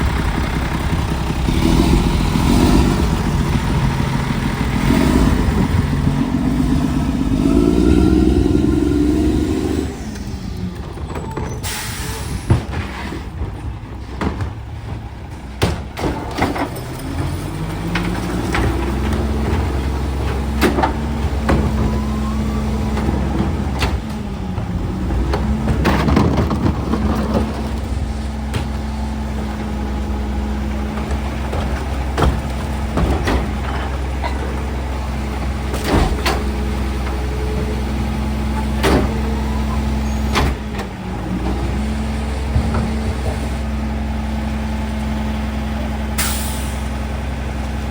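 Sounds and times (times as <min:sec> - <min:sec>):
diesel engine revving: 0:00.0 - 0:13.4, 0:14.9 - 0:47.9.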